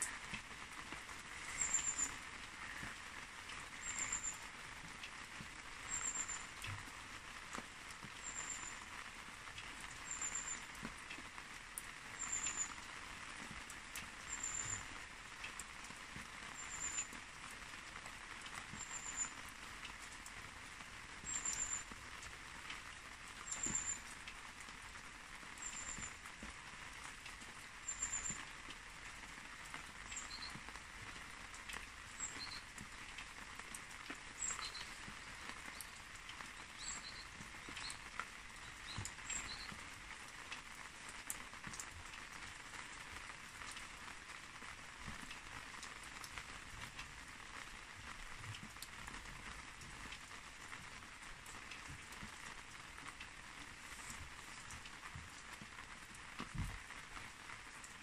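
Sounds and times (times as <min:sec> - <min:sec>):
soft hiss: 0:00.0 - 0:58.0.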